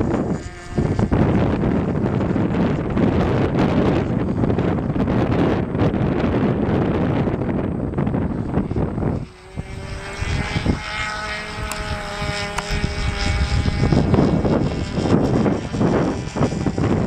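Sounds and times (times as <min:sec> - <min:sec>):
model airplane motor drone: 0:00.0 - 0:17.0
wind buffeting microphone: 0:00.0 - 0:17.0.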